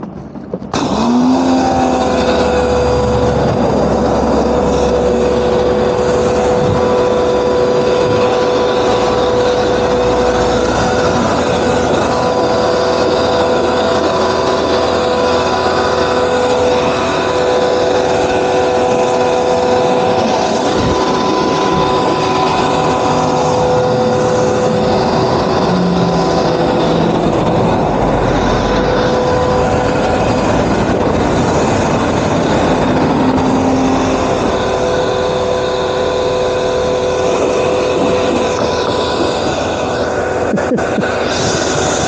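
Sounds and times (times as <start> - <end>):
pressure washer motor whining: 0.0 - 42.0
water jet spraying: 0.7 - 42.0.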